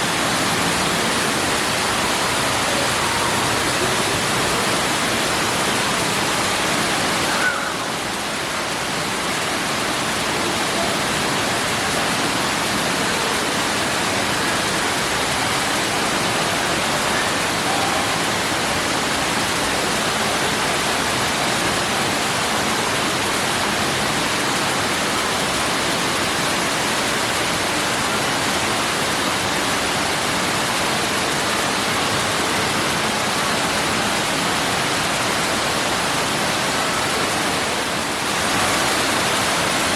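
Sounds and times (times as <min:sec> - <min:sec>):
water falling into a pool: 0:00.0 - 0:39.9.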